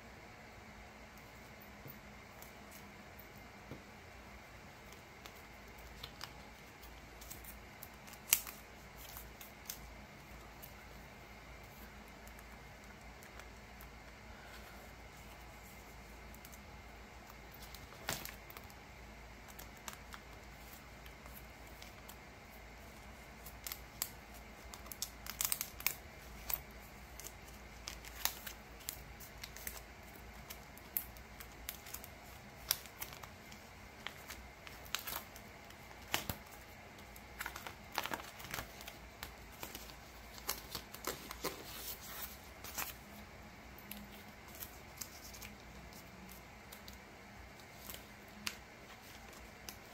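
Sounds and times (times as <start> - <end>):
faint steady hum: 0.0 - 49.9
cards rustling in plastic sleeves: 4.5 - 49.9.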